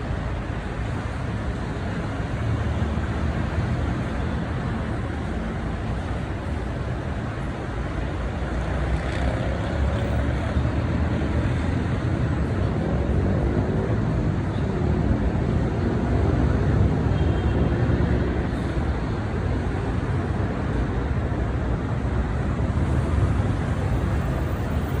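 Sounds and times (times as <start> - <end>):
heavy vehicle traffic rumble: 0.0 - 25.0.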